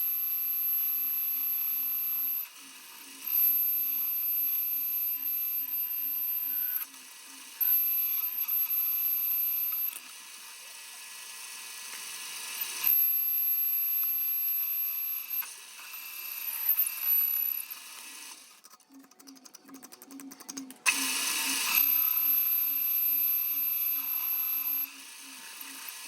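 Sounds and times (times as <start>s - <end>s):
high-pitched machine whine: 0.0s - 26.0s.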